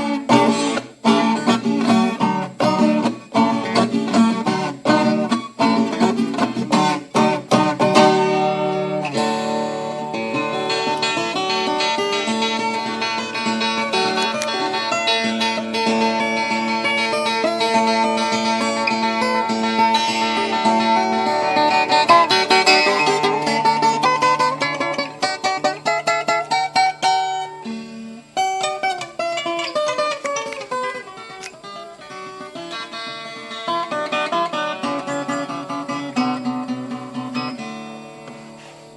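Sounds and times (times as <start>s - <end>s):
acoustic guitar music: 0.0s - 38.9s.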